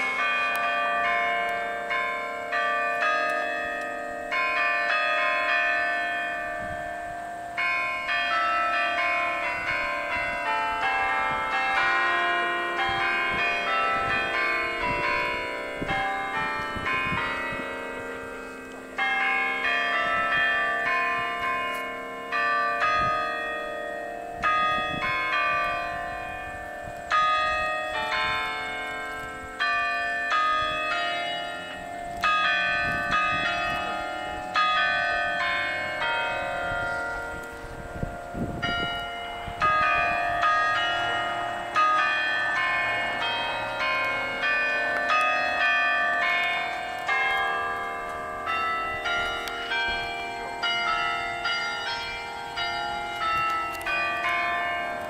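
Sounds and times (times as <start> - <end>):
carillon bells ringing: 0.0 - 55.0.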